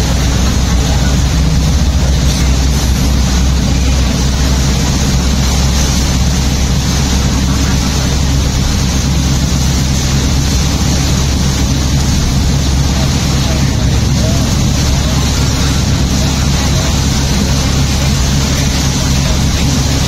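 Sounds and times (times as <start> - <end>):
low road drone: 0.0 - 20.0
rain on car: 0.0 - 20.0
tyres hissing on wet pavement: 0.0 - 20.0.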